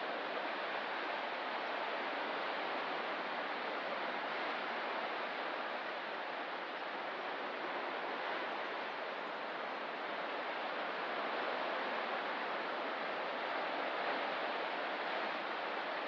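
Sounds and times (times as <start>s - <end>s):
ocean surf: 0.0s - 16.0s.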